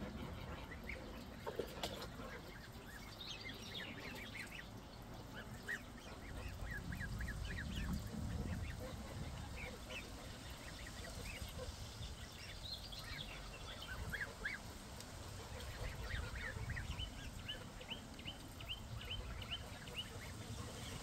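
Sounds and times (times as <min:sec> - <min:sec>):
young geese peeping: 0:00.0 - 0:21.0.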